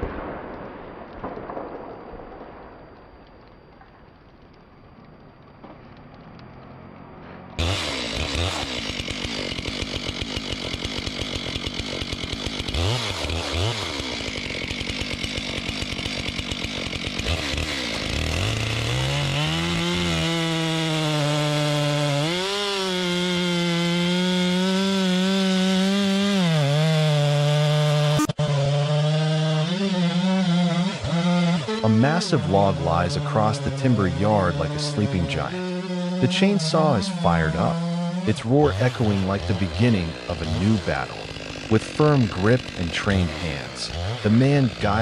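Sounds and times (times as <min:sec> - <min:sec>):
chainsaw cutting wood: 0:05.6 - 0:45.0.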